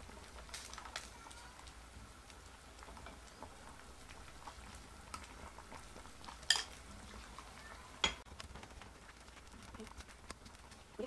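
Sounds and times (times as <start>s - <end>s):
faint simmer: 0.0s - 11.0s
ladle stirring soup in a pot: 0.1s - 11.0s.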